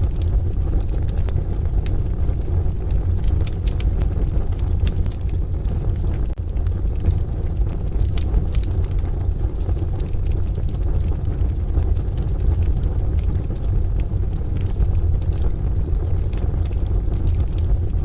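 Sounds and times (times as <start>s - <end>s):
fire pops: 0.0s - 18.0s
low rumble of stove: 0.0s - 18.0s
wood fire crackling: 0.0s - 18.0s.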